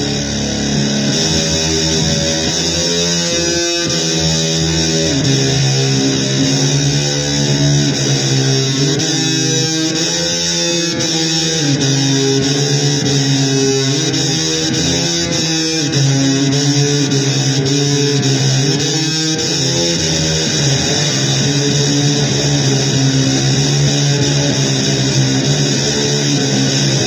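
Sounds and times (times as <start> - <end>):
electric guitar playing blues: 0.0 - 27.0.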